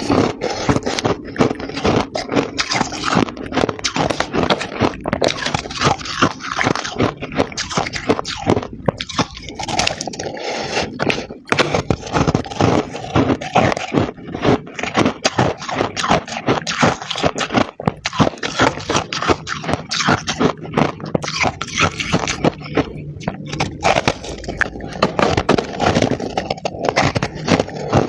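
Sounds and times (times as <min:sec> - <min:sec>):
frost being chewed: 0:00.0 - 0:28.0.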